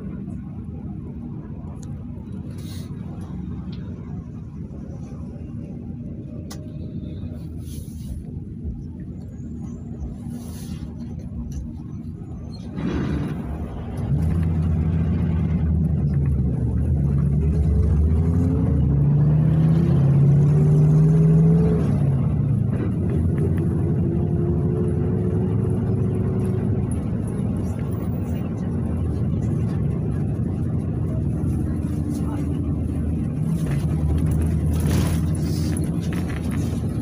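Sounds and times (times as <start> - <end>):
bus engine accelerating: 0.0 - 37.0.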